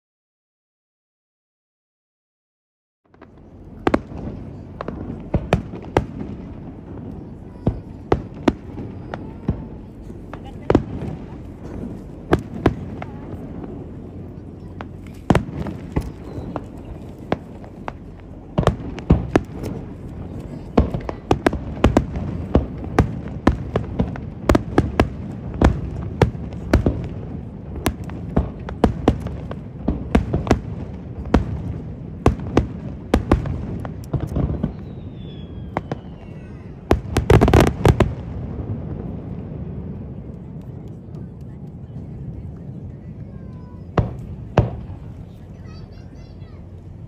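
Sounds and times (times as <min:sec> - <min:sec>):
background rumble: 0:03.1 - 0:47.0
fireworks bursting in sharp bangs: 0:03.1 - 0:47.0
low background noise: 0:03.1 - 0:47.0.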